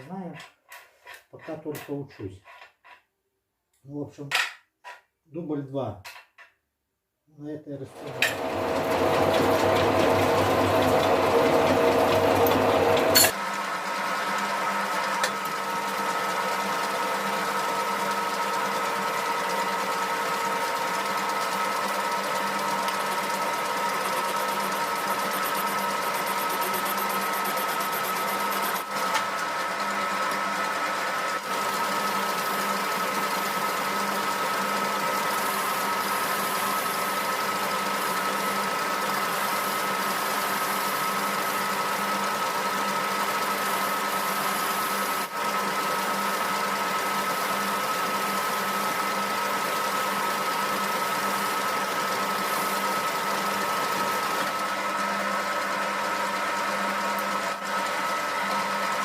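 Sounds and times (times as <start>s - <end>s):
lathe humming with high whine: 8.0s - 59.0s.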